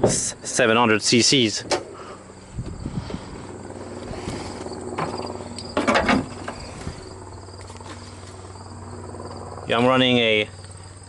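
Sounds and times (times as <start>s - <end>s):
car engine idling: 1.8s - 11.0s.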